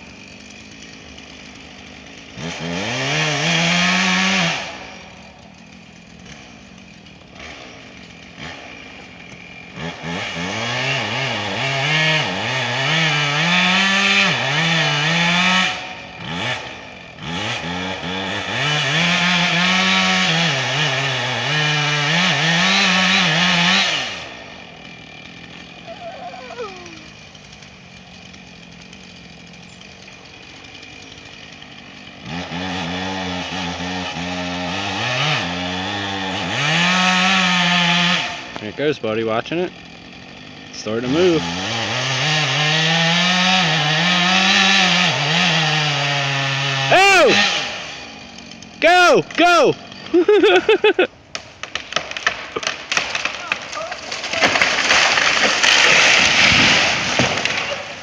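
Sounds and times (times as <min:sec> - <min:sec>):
chainsaw cutting wood: 0:00.0 - 0:58.0
chainsaw idling: 0:00.0 - 0:58.0.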